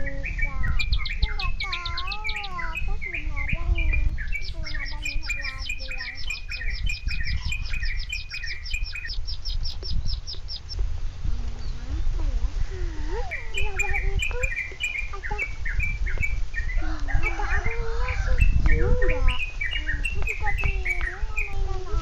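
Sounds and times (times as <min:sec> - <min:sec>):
birds chirping: 0:00.0 - 0:22.0
falling bird calls: 0:00.0 - 0:22.0
steady low rumble: 0:00.0 - 0:22.0.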